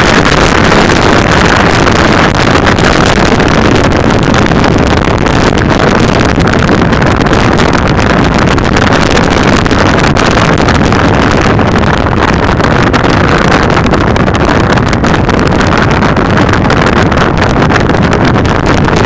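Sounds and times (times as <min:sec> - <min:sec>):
motorcycle running on wet road: 0:00.0 - 0:19.0
wind rush on microphone: 0:00.0 - 0:19.0.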